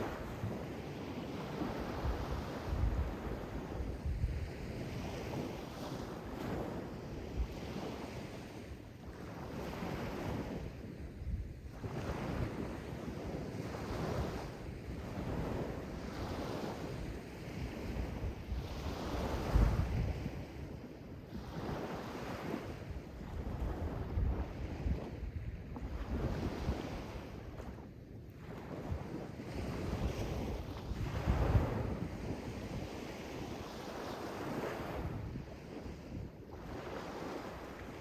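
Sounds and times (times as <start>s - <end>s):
wind buffeting microphone: 0.0s - 8.4s, 9.5s - 38.0s.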